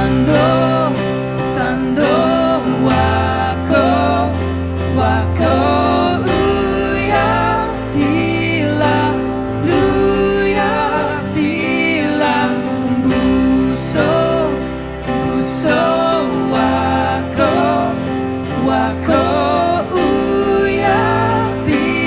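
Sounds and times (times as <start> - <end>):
gospel band with guitar and bass: 0.0 - 22.0
person singing: 0.0 - 22.0.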